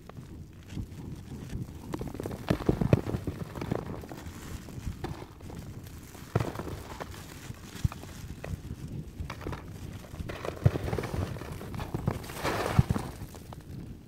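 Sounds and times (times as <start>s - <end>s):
dog paws thudding in snow: 0.4s - 13.8s.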